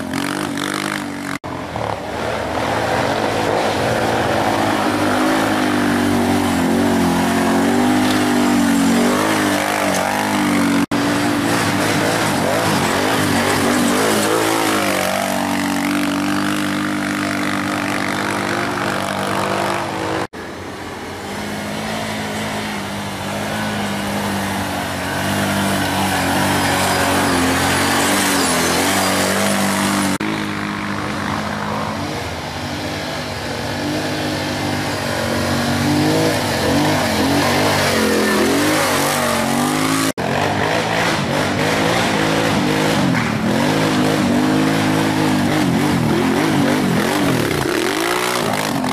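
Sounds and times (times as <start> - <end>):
quad bike engines revving: 0.0 - 48.9.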